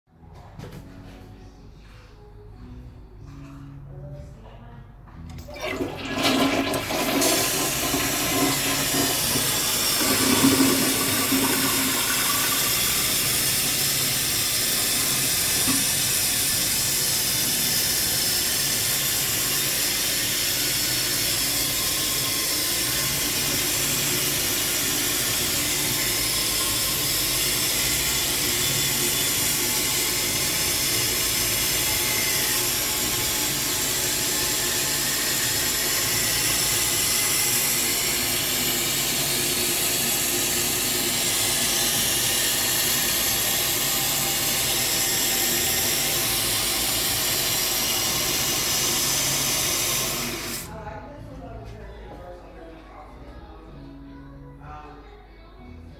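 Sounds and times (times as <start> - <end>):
toilet flushing: 5.3 - 50.7
toilet tank refilling hiss: 5.3 - 50.7.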